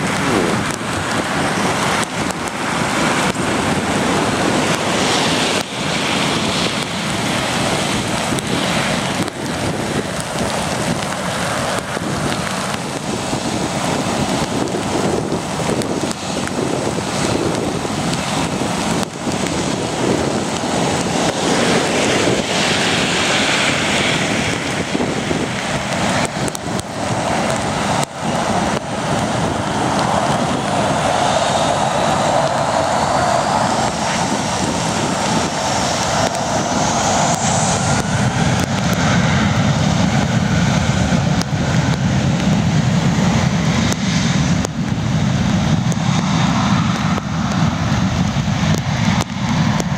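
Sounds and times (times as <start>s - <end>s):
jet engines at takeoff power: 0.0s - 49.9s.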